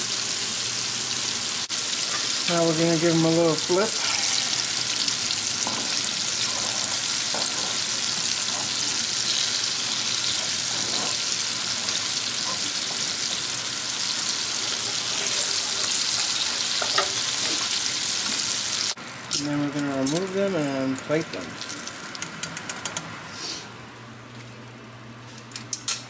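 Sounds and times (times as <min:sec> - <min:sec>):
battered fish frying: 0:00.0 - 0:23.6.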